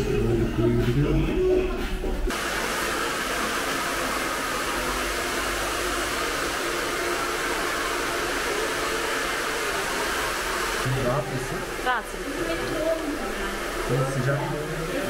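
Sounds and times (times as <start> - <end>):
hair dryer running: 2.3 - 15.0.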